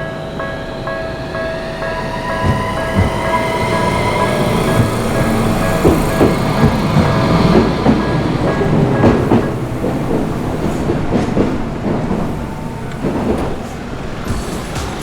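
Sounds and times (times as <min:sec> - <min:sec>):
crossing warning bell ringing: 0:00.0 - 0:14.9
train wheels clacking on rails: 0:00.0 - 0:15.0.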